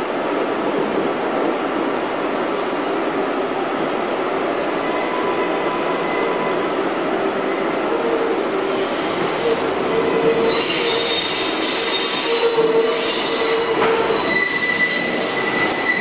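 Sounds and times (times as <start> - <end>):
subway car rumble and hiss: 0.0 - 16.0.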